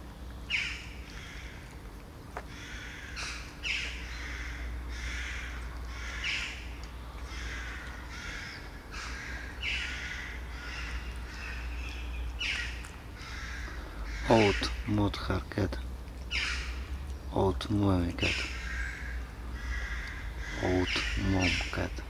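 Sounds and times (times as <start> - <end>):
low background rumble: 0.0 - 22.0
bird rasping calls: 0.5 - 1.6, 2.5 - 14.9, 16.3 - 16.9, 18.1 - 22.0.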